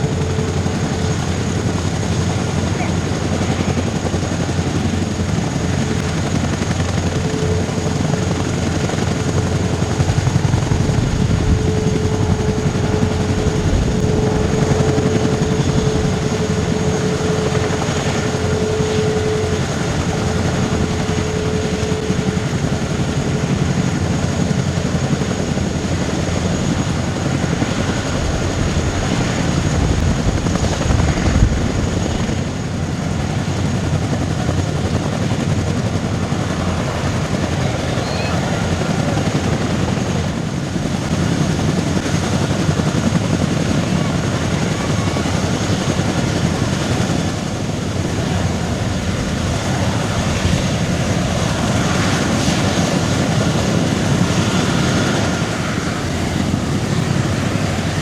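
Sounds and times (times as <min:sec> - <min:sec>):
aircraft engines rumbling: 0:00.0 - 0:58.0.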